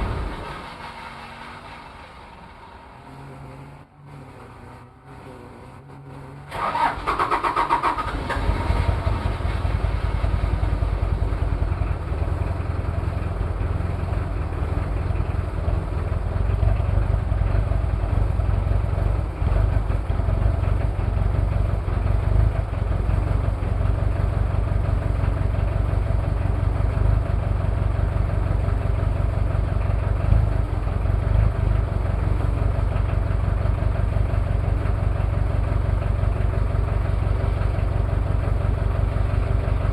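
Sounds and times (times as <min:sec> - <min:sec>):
diesel engine cranking: 0:00.0 - 0:39.9
diesel engine pulsing idle: 0:00.0 - 0:39.9.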